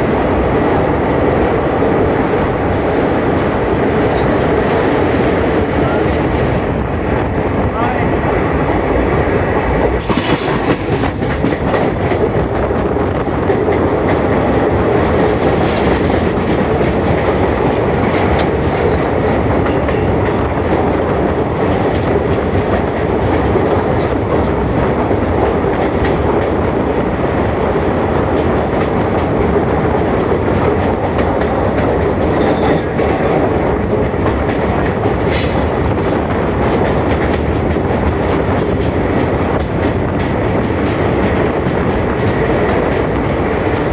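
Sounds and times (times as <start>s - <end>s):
train wheels clattering on rails: 0.0s - 43.9s.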